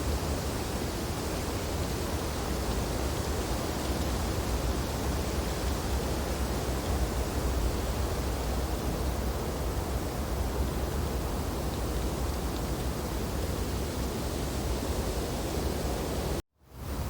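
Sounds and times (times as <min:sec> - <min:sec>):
wind blowing through tree branches: 0:00.0 - 0:17.0.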